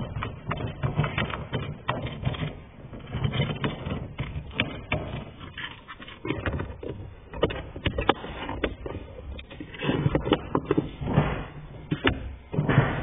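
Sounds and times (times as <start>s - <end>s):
plastic clicks and knocks: 0.0s - 13.0s.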